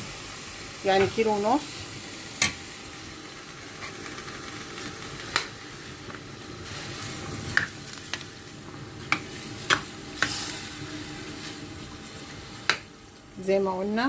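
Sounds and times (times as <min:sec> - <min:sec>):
rice sizzling in pot: 0:00.0 - 0:14.0.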